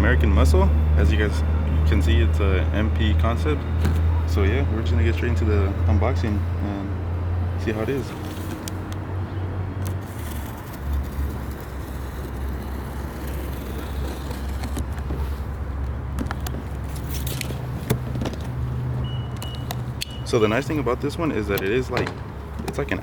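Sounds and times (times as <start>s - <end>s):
car engine humming: 0.4s - 23.0s.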